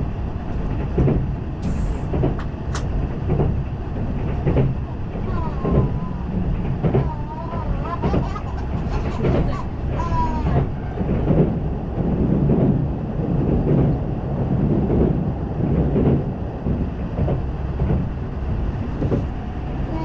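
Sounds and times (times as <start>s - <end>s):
train car rumbling on rails: 0.0s - 20.0s.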